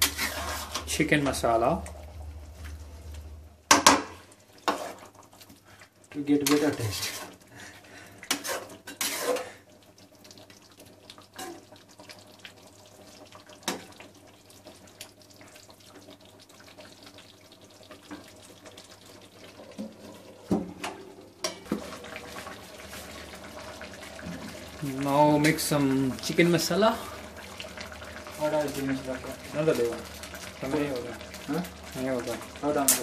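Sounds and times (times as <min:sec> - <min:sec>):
chicken simmering bubbling hiss: 0:00.0 - 0:33.0.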